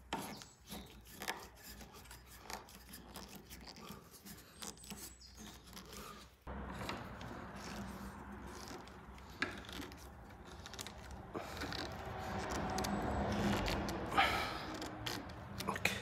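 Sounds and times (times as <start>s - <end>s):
short creak: 2.4s - 16.0s.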